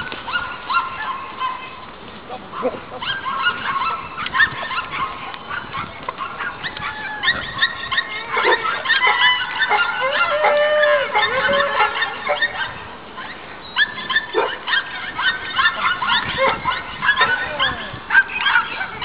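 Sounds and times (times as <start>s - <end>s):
dogs yelping and whining: 0.0s - 1.8s, 2.5s - 19.0s.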